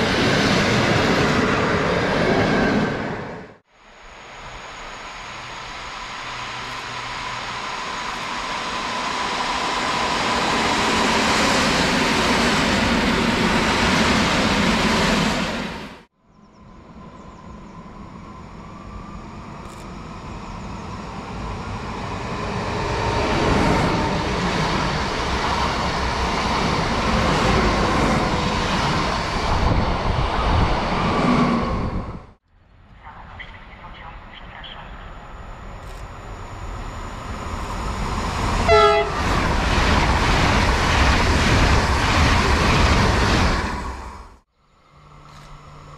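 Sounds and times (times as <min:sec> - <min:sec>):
electric trains running past: 0:00.0 - 0:45.9.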